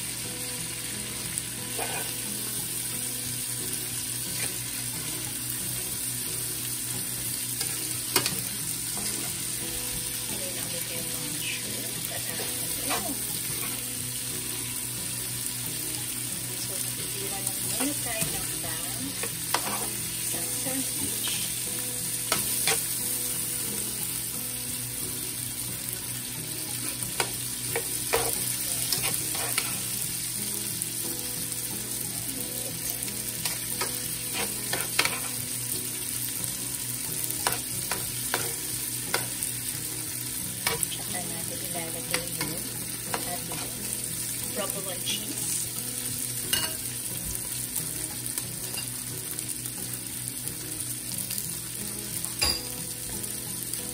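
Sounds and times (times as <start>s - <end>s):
meat and vegetables sizzling in pan: 0.0s - 53.9s.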